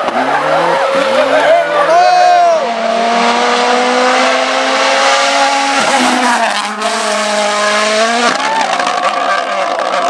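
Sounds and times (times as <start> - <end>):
car engine revving high: 0.0 - 8.6.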